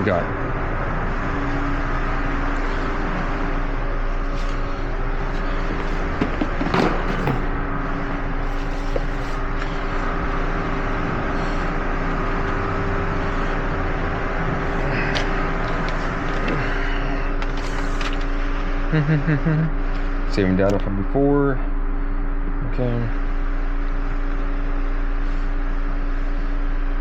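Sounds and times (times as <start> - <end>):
mechanical hum with whining tones: 0.0 - 27.0.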